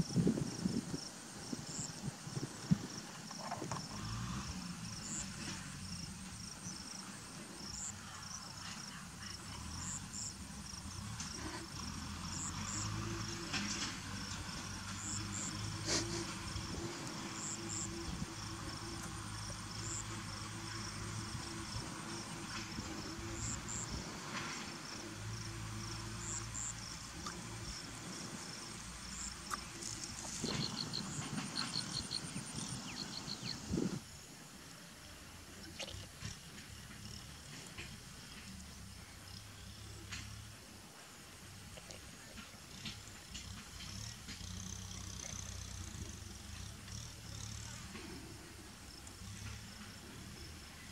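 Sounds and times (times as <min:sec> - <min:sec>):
insects chirping: 0:00.0 - 0:50.9.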